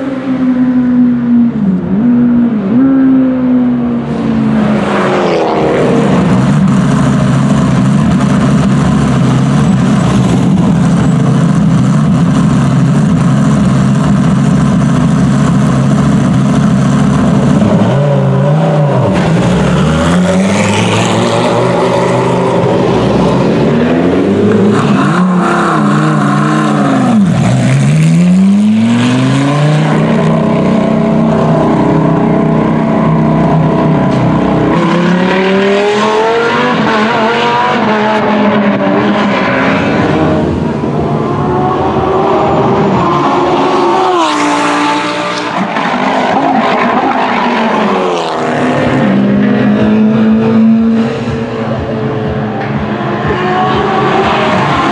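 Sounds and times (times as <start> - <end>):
sports car engine idling and revving: 0.0 - 47.0, 47.8 - 54.9.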